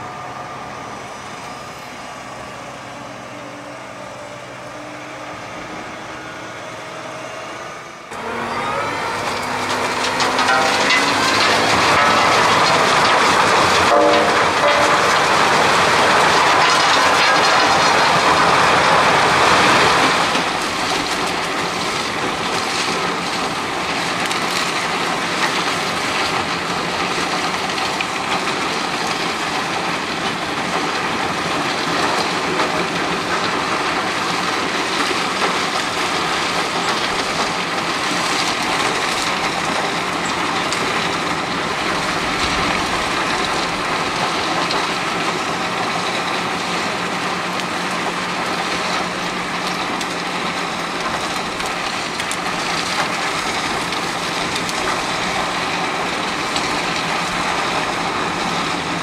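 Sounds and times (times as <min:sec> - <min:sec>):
wood chipper running: 0:00.0 - 0:59.0.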